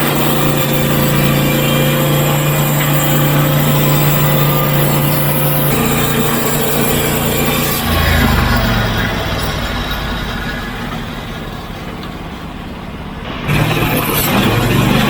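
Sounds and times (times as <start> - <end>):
sawmill gas engine running: 0.0 - 15.0.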